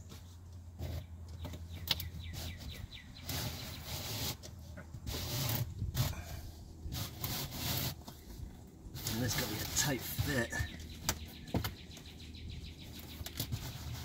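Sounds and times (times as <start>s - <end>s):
plastic strip scraping along panels: 0.1s - 6.2s, 6.8s - 11.8s, 12.8s - 14.0s.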